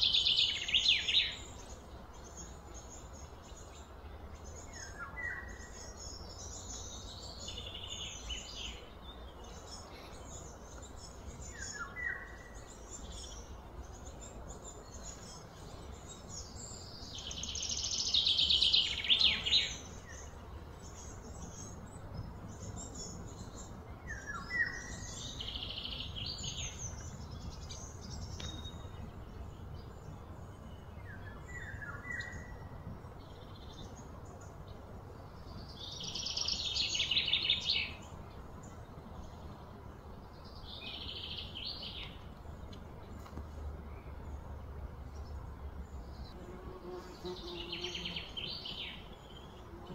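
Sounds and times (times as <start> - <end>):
birds chirping: 0.0 - 49.9
low outdoor rumble: 0.0 - 49.9.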